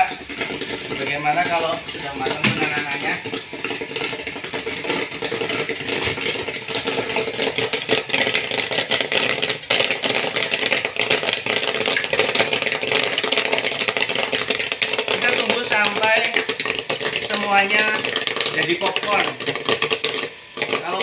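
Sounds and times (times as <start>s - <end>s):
popcorn popping: 0.0s - 21.0s
stirrer motor hum: 0.0s - 21.0s.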